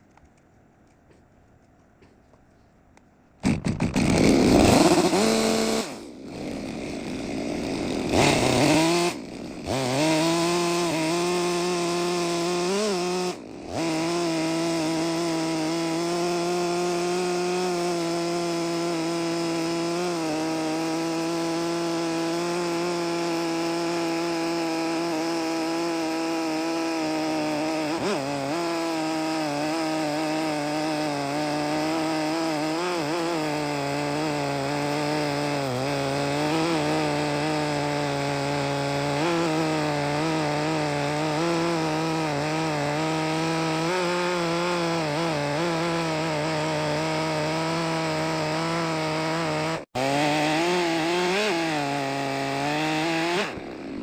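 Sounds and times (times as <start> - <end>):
chainsaw cutting log: 3.4 - 54.0.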